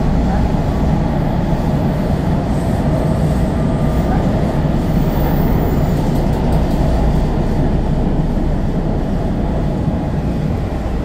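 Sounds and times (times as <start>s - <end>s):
railcar wheels rumbling on rails: 0.0s - 11.0s.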